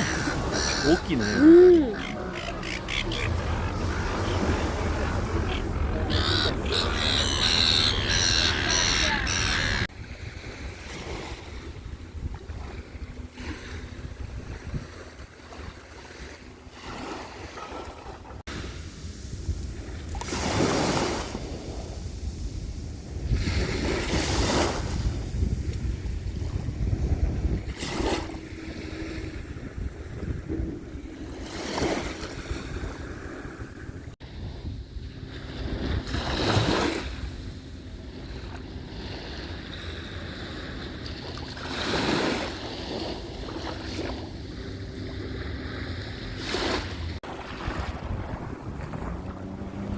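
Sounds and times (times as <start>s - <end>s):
wind buffeting microphone: 0.0s - 16.6s, 18.2s - 38.9s, 42.8s - 49.9s
waves washing on shore: 0.0s - 49.9s.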